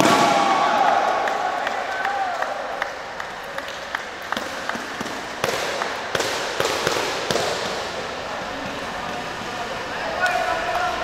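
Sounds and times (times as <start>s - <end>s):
hall noise: 0.0s - 11.0s.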